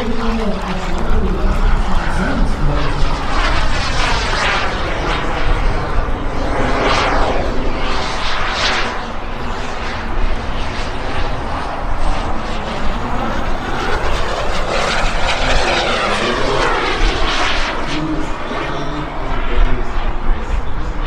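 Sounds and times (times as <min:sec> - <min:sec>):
model jet turbine whine: 0:00.0 - 0:21.0.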